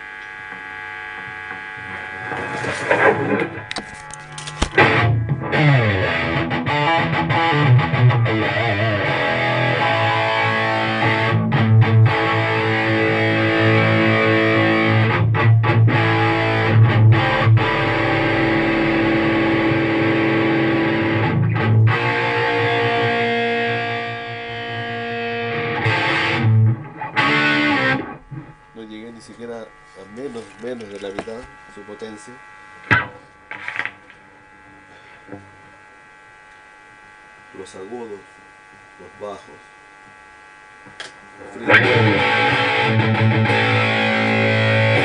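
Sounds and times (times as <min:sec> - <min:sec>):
distorted electric guitar: 0:00.0 - 0:45.0.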